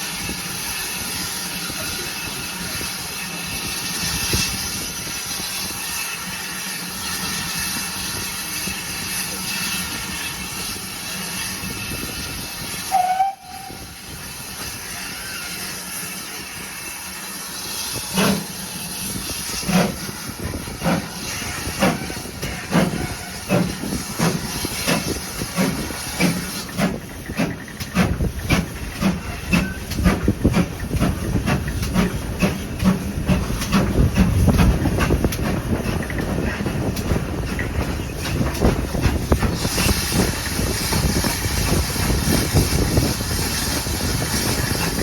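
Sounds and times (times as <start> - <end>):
steam hissing: 0.0 - 45.0
steam locomotive exhaust beats: 0.0 - 45.0
train rumble: 0.0 - 45.0.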